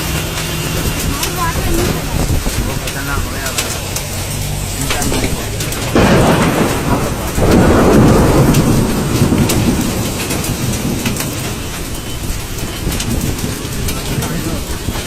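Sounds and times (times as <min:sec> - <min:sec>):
hail and heavy rain pelting: 0:00.0 - 0:15.0
hail clicking on hard surfaces: 0:00.0 - 0:15.0
low rumble: 0:00.0 - 0:15.0.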